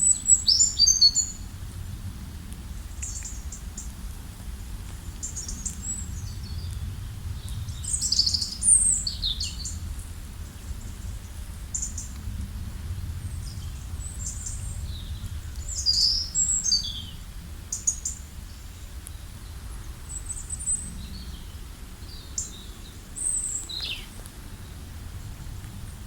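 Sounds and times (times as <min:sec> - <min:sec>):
small birds chirping: 0:00.0 - 0:01.5, 0:02.8 - 0:04.0, 0:04.9 - 0:12.2, 0:13.2 - 0:26.0
steady low rumble: 0:01.1 - 0:26.0.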